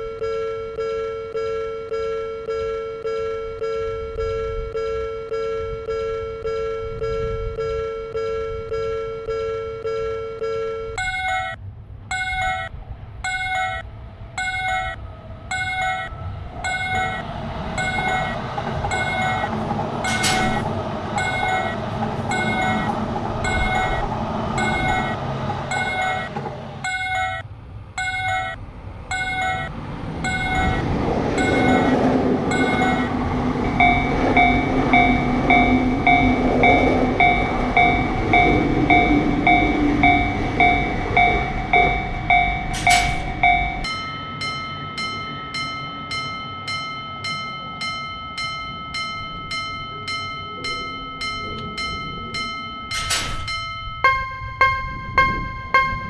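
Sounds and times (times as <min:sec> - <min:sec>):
level-crossing warning bell: 0:00.0 - 0:56.0
electric trains passing: 0:10.9 - 0:56.0.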